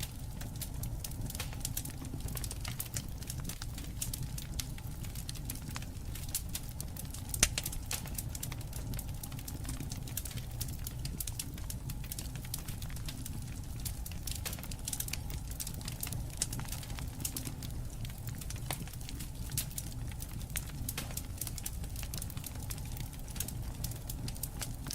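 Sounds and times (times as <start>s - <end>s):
campfire crackling and popping: 0.0s - 24.9s
low rumble of burning: 0.0s - 24.9s.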